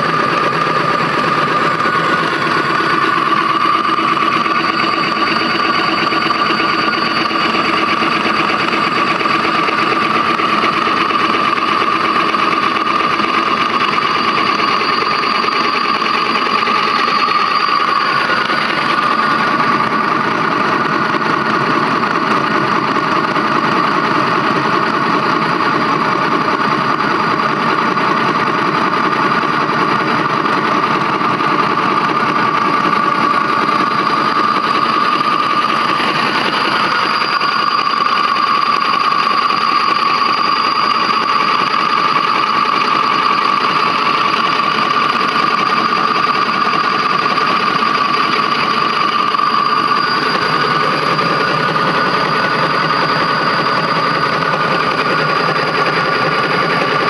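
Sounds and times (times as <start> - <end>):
motor rig running with whine: 0.0 - 57.0.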